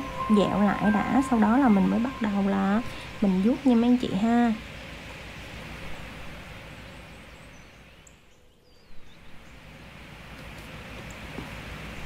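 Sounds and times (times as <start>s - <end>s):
background hiss: 0.0s - 12.0s
low hum: 0.0s - 12.0s.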